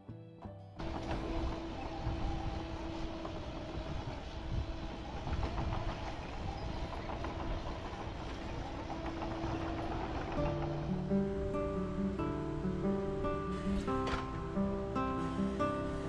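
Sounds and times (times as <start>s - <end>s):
engine humming: 0.8s - 16.0s.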